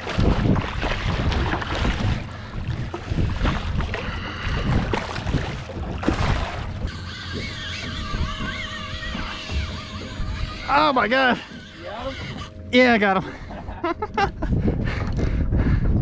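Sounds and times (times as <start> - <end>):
water sloshing around boat: 0.0 - 15.2
wind buffeting microphone: 0.0 - 16.0.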